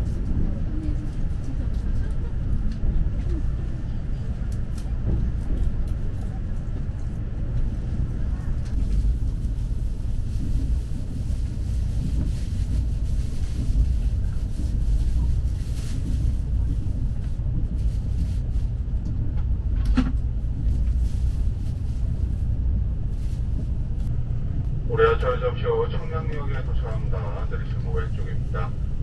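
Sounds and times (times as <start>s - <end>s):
train rumble inside cabin: 0.0s - 29.0s.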